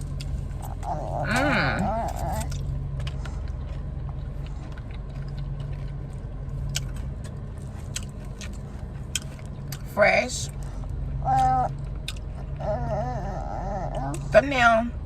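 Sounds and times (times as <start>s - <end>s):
crunching of fried chicken: 0.0s - 12.6s
steady low hum: 0.0s - 15.0s.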